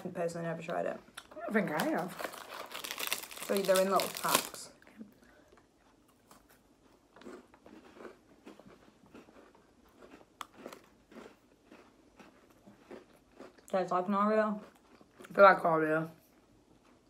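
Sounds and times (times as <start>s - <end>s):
crunching and chewing cookies: 0.4s - 17.0s.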